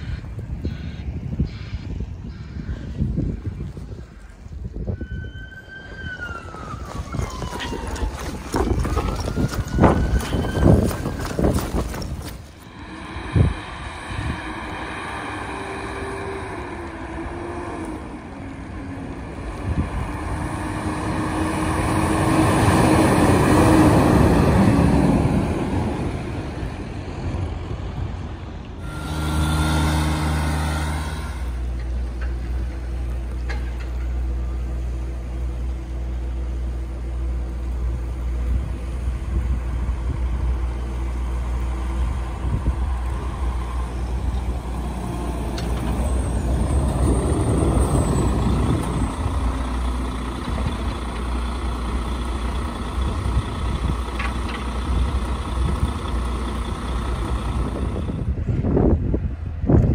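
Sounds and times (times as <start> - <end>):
diesel truck engines humming: 0.0 - 59.9
truck passing: 0.0 - 59.9.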